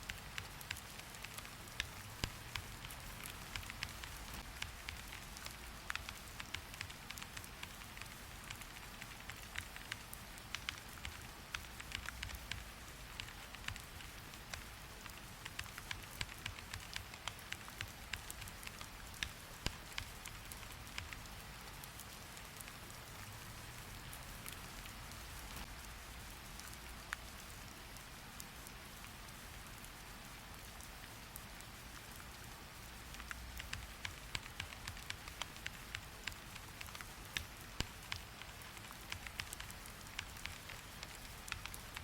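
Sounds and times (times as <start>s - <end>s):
rain hiss: 0.0s - 42.0s.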